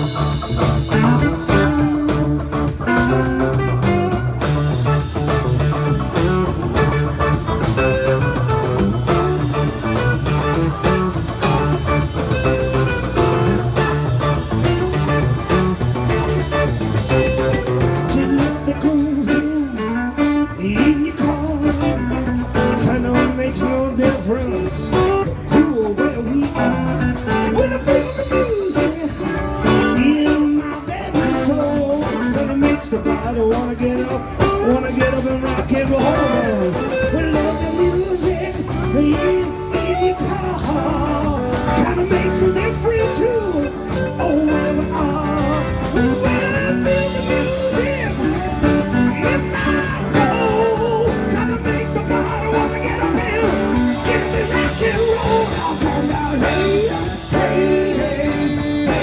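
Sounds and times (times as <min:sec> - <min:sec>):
guitar melody with bent notes: 0:00.0 - 0:59.0
live rock band playing: 0:00.0 - 0:59.0.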